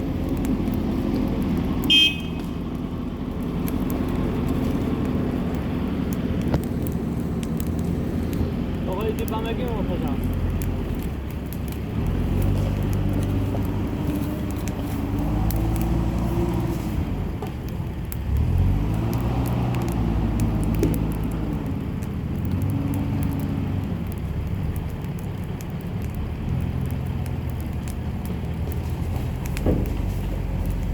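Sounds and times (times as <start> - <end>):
campfire crackling: 0.0 - 30.9
cars passing: 0.0 - 30.9.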